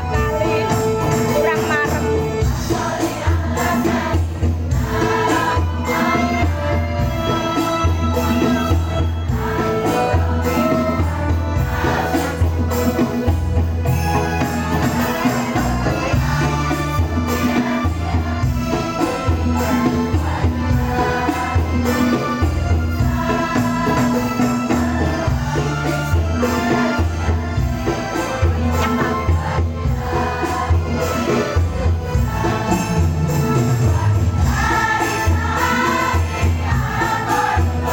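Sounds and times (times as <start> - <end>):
choir singing devotional song: 0.0 - 37.9
steady percussion: 0.0 - 37.9.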